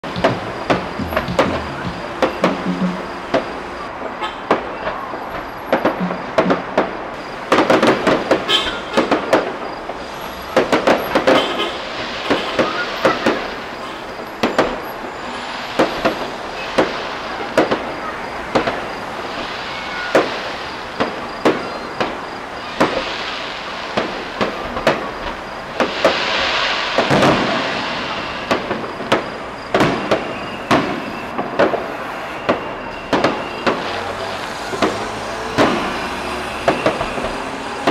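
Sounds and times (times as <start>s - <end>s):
firework shells bursting: 0.0s - 4.8s, 5.7s - 17.9s, 18.5s - 37.9s
crackling firework bursts: 0.0s - 37.9s.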